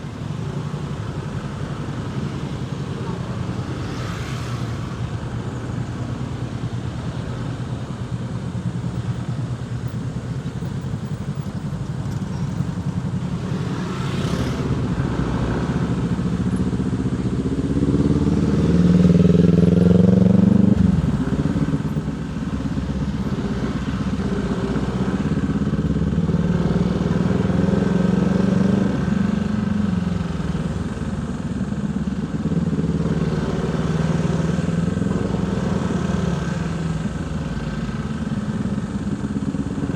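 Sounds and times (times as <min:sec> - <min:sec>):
motorcycle engine revving: 0:00.2 - 0:39.9.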